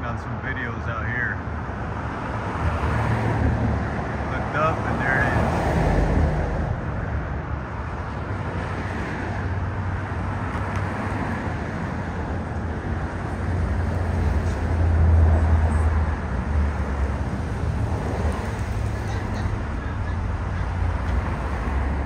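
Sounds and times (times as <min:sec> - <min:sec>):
low hum of traffic: 0:00.0 - 0:22.0
vehicle passing: 0:01.6 - 0:22.0.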